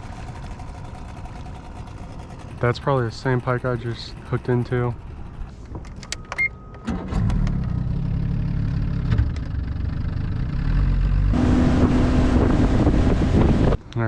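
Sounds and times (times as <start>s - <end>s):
boat motor running: 0.0s - 5.8s, 7.5s - 14.0s.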